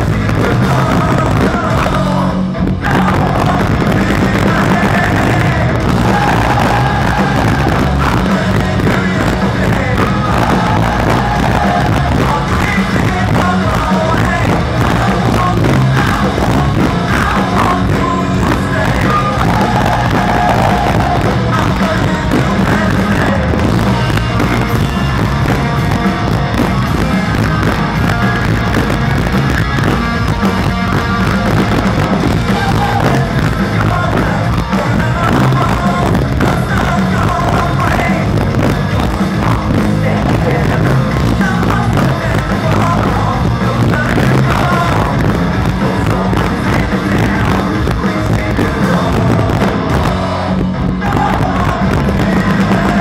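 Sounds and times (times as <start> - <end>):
lead singer's vocals: 0.0 - 53.0
rock band playing live: 0.0 - 53.0.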